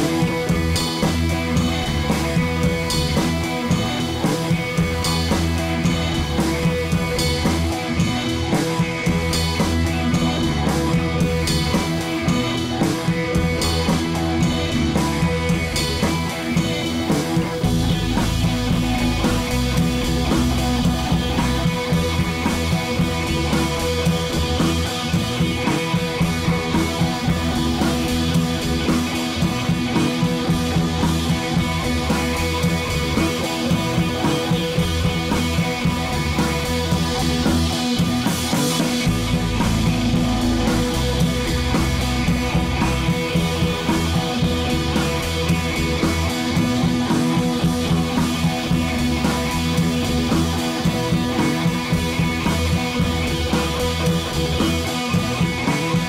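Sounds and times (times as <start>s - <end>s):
rock music with guitar and drums: 0.0s - 56.0s.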